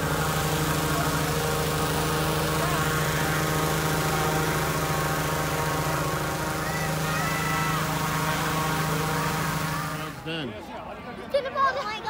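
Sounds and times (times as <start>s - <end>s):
engine-driven fan running: 0.0s - 11.1s.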